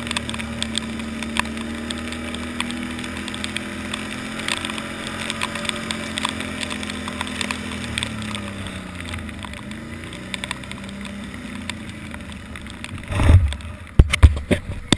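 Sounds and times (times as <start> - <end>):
atv engine running: 0.0 - 14.9
scattered clicks: 0.0 - 14.9.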